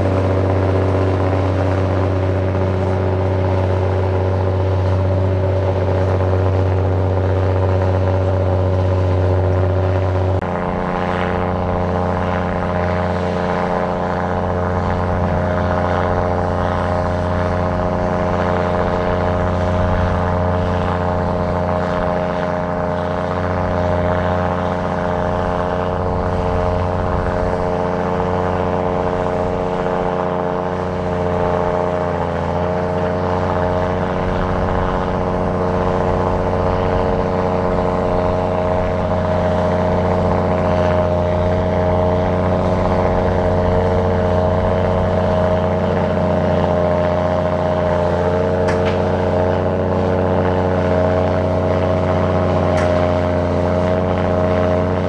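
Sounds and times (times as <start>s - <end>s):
heavy machinery engine running: 0.0s - 55.0s.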